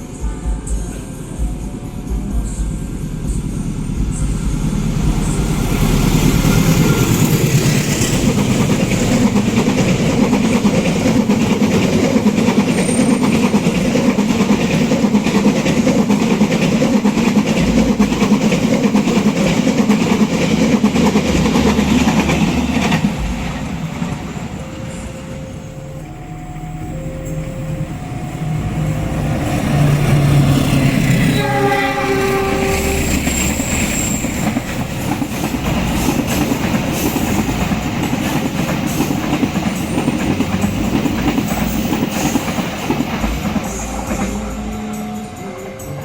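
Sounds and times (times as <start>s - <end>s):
train wheels clattering on rails: 0.0s - 46.0s.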